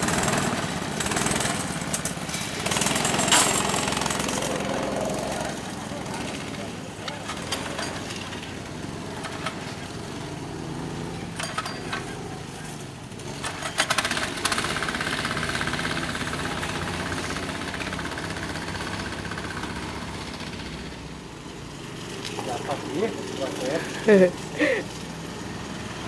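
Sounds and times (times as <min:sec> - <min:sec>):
go-kart engines buzzing: 0:00.0 - 0:26.0.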